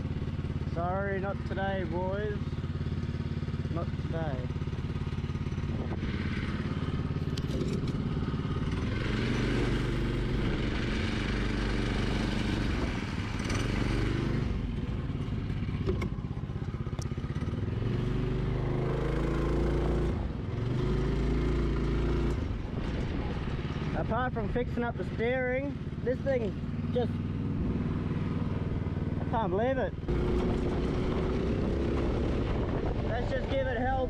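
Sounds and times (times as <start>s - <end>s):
buggy engine revving: 0.0s - 34.0s.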